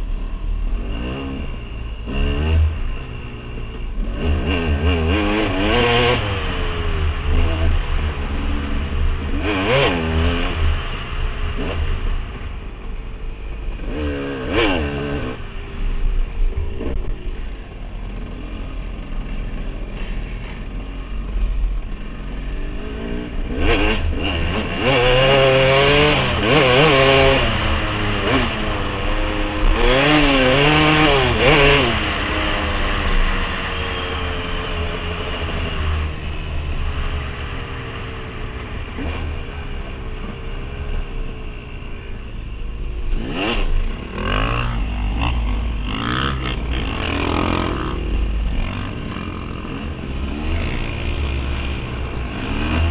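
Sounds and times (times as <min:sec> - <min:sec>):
dirt bike engine revving: 0:00.7 - 0:12.7, 0:13.4 - 0:21.3, 0:22.1 - 0:42.1, 0:43.0 - 0:52.9.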